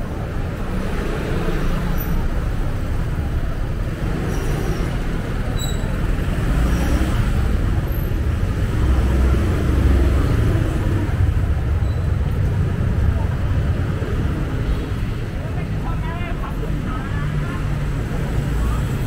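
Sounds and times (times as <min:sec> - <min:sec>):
cars passing: 0:00.0 - 0:19.0
motorbikes passing: 0:00.0 - 0:19.0.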